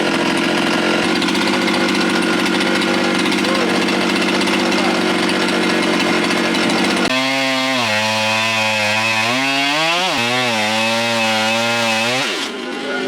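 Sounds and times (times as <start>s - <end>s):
chainsaw cutting log: 0.0s - 12.8s.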